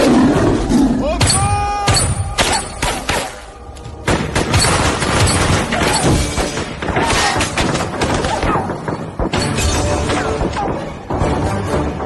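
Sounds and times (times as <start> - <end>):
film music: 0.0 - 12.0.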